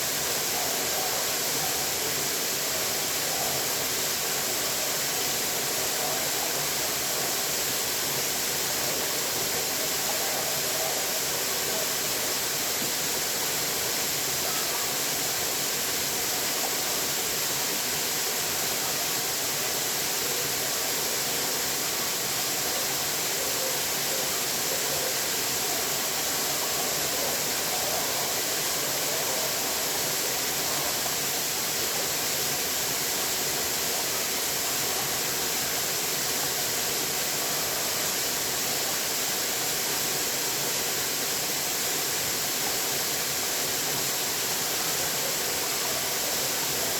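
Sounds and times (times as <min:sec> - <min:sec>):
running water rushing: 0:00.0 - 0:46.9.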